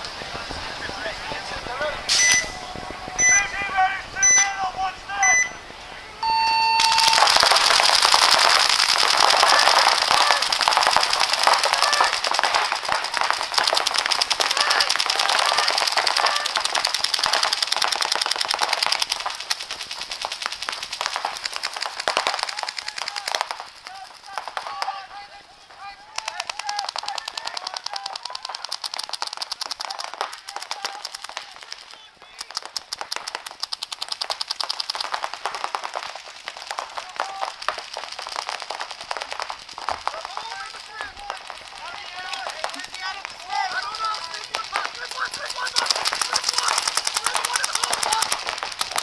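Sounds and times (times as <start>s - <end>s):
paintball markers firing: 6.8s - 25.1s, 25.8s - 49.0s.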